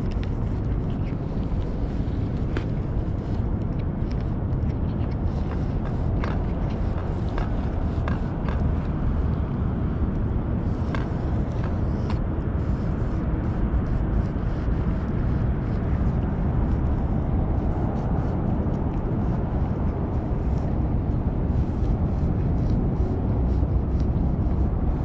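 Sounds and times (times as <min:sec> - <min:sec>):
cat chewing and licking: 0:00.0 - 0:25.0
wind rumble on microphone: 0:00.0 - 0:25.0.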